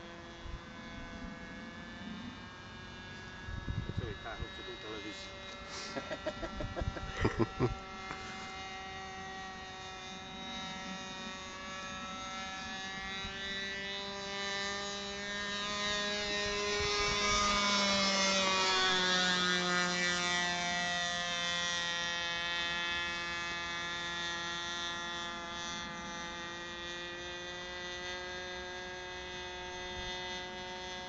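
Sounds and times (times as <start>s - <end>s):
model airplane motor buzzing: 0.0s - 31.0s.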